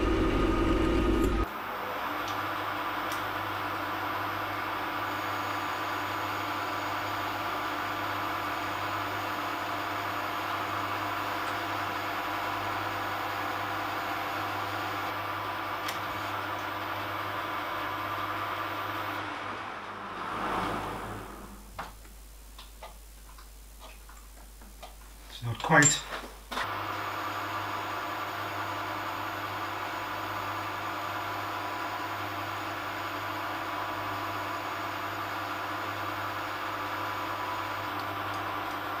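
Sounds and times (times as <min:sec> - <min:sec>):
metalworking lathe running: 0:00.0 - 0:21.6, 0:26.7 - 0:39.0
lathe spinning down: 0:00.0 - 0:22.0, 0:26.7 - 0:39.0.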